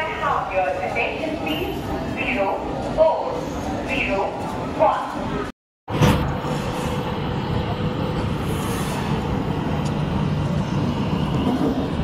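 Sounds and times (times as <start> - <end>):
train coach rumbling on rails: 0.0 - 12.0.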